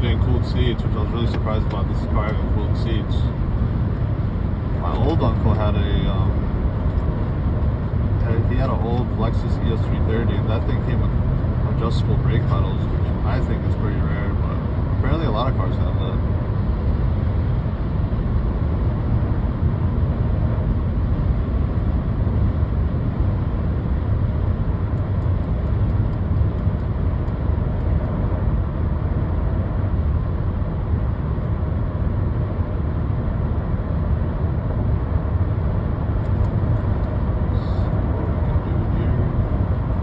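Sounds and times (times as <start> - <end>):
road rumble inside car cabin: 0.0 - 40.0.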